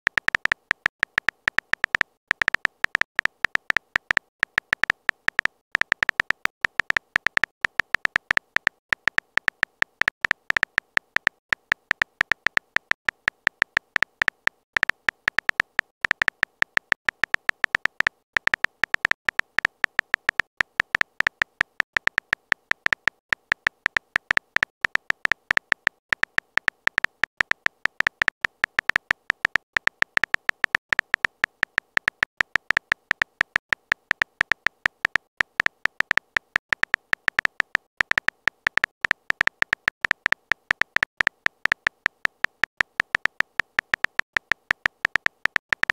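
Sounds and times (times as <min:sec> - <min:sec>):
electronic key-tap clicks: 0:00.1 - 0:45.9.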